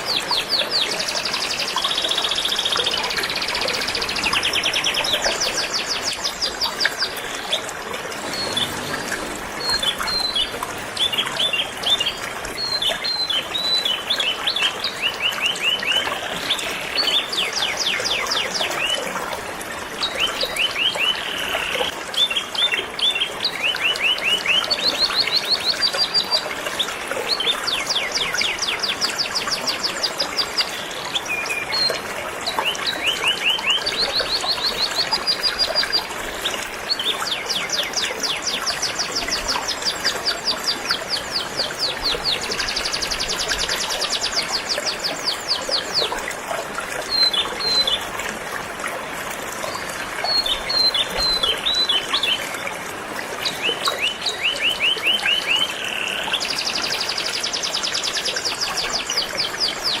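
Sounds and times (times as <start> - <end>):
flowing river rushing: 0.0 - 60.0.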